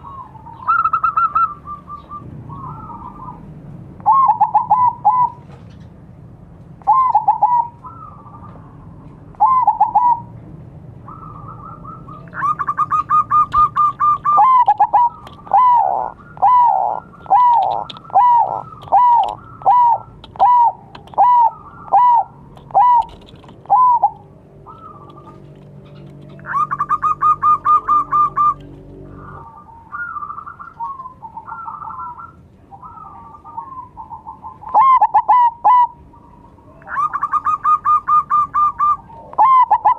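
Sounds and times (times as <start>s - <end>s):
dove cooing: 0.0s - 5.8s, 6.8s - 10.4s, 11.0s - 39.9s.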